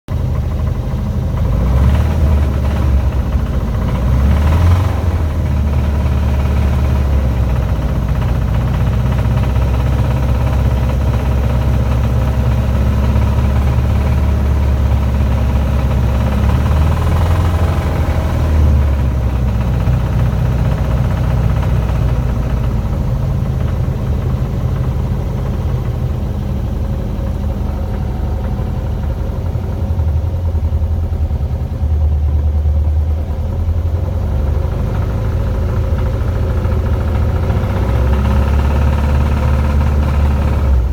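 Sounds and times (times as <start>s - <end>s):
vehicle engine idling: 0.1s - 40.9s.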